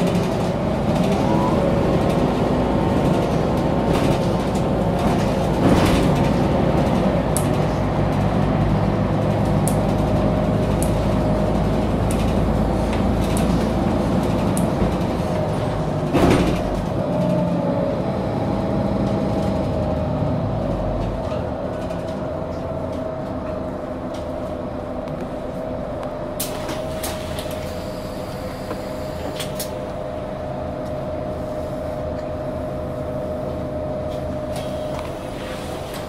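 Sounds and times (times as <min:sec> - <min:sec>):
bus engine hum with whine: 0:00.0 - 0:36.0.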